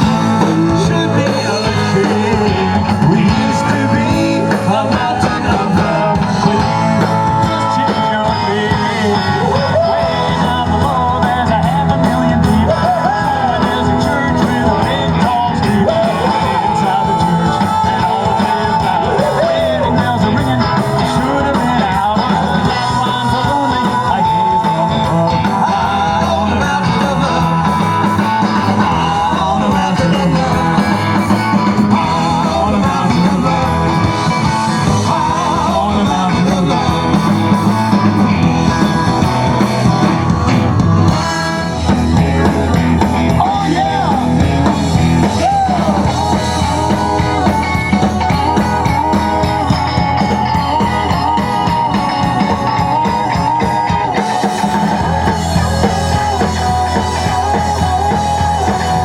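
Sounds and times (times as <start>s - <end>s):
rock and roll band playing: 0.0s - 59.0s.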